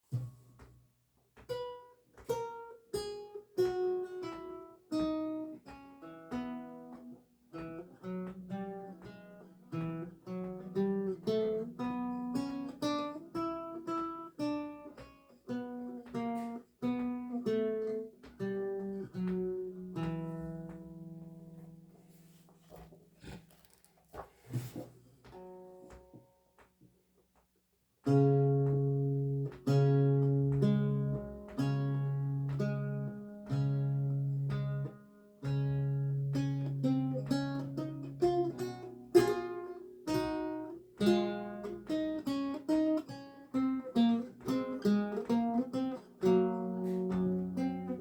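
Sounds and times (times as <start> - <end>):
solo lute melody: 1.5 - 23.8, 24.6 - 26.4, 28.0 - 48.0.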